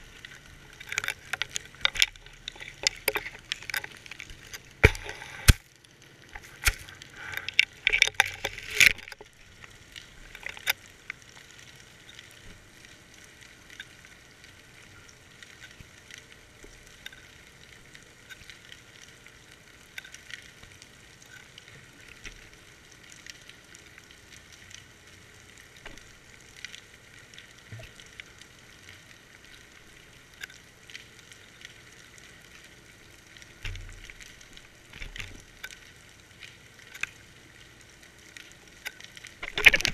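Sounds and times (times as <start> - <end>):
faint underwater crackle: 0.0 - 39.9.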